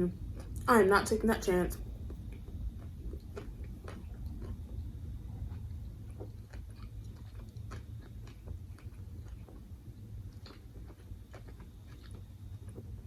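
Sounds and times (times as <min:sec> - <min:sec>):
close-up chewing: 0:00.2 - 0:00.7, 0:01.9 - 0:13.0.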